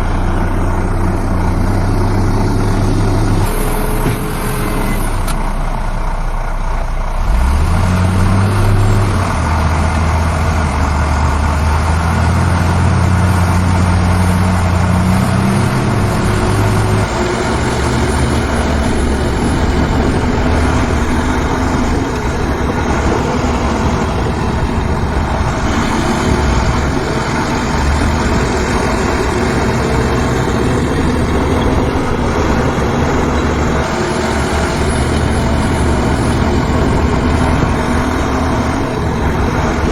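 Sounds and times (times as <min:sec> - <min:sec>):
heavy diesel machinery engines: 0:00.0 - 0:39.9.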